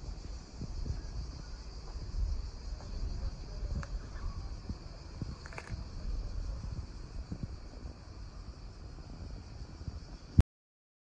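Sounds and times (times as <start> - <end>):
insects chirring: 0.0 - 10.4
wind rumble on microphone: 0.0 - 10.4.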